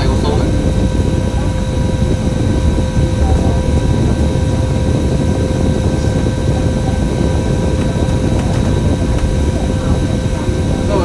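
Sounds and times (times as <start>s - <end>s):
bus engine and road rumble: 0.0s - 11.0s
faint steady whine: 0.0s - 11.0s.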